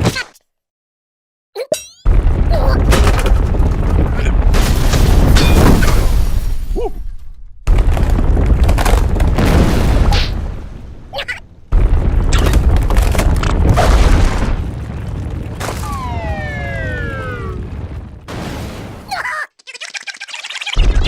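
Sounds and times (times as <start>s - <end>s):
heavy rumbling booms: 2.1s - 19.1s.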